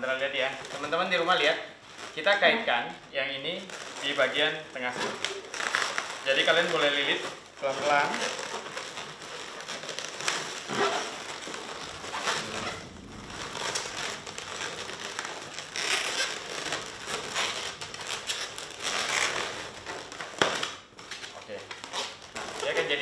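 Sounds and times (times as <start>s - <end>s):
balloons rubbing and scraping: 0.0s - 23.0s.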